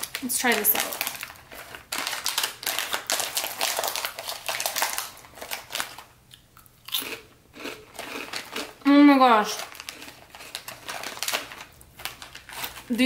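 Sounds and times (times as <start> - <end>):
plastic packet crinkling: 0.0 - 6.2, 7.0 - 13.0
rice crackers being chewed: 0.0 - 13.0.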